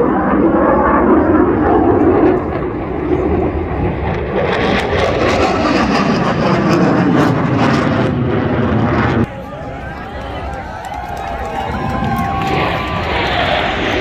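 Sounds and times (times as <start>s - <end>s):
jet fighter engine roar: 0.0s - 14.0s.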